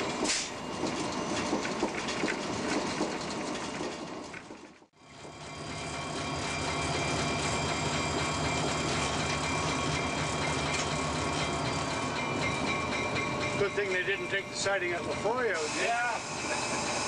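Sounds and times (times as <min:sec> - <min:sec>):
locomotive engine hum: 0:00.0 - 0:17.0.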